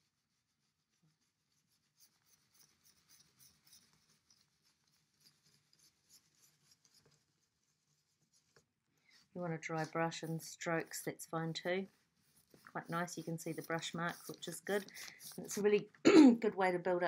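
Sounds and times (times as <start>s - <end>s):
dry paintbrush rubbing on paper: 0.0s - 16.0s.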